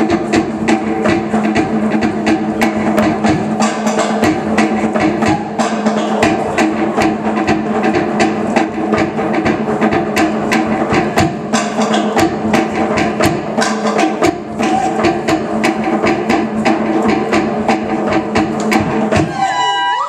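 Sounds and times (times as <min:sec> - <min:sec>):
wooden log drum strikes: 0:00.0 - 0:19.5
deep drum beats: 0:00.0 - 0:19.7.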